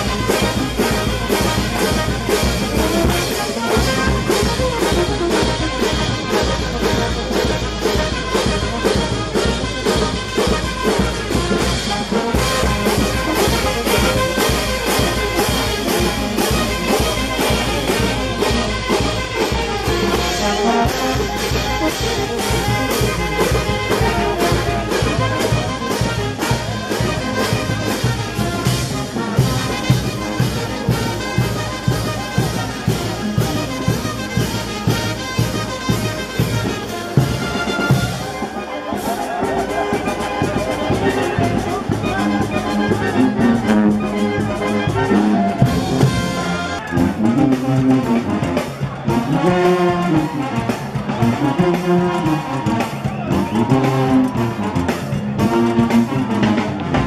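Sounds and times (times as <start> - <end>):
brass band playing dance music: 0.0 - 57.0.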